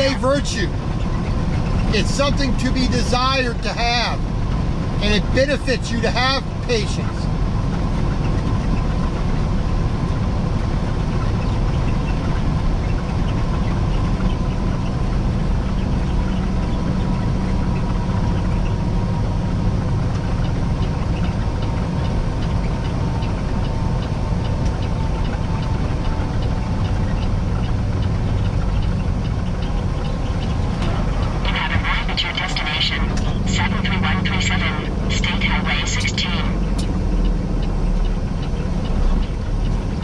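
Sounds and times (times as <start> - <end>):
truck engine and road drone: 0.0 - 40.0.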